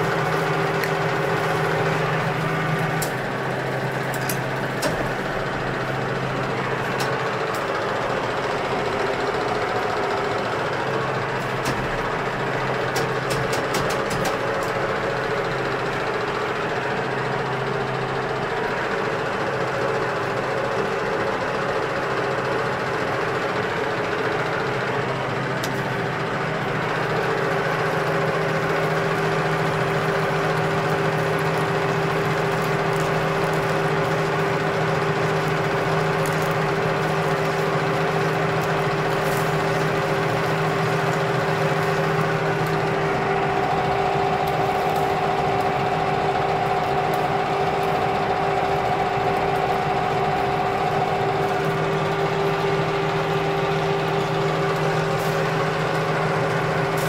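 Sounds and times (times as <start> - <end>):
metal lathe humming: 0.0 - 57.0.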